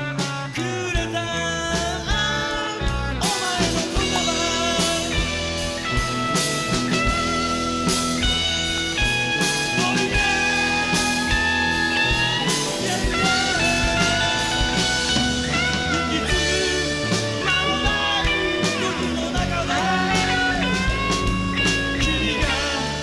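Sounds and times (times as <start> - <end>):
rock music with guitar and drums: 0.0 - 23.0.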